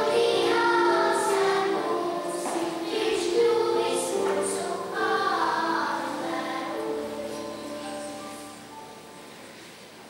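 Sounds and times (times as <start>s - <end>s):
children's choir singing: 0.0s - 8.8s.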